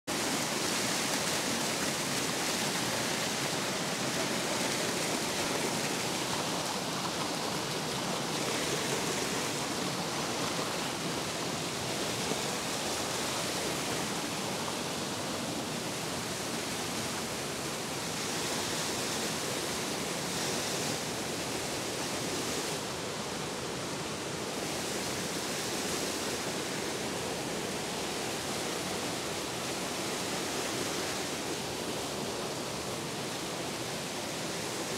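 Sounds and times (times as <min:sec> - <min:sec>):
mountain stream rushing over rocks: 0:00.1 - 0:34.9.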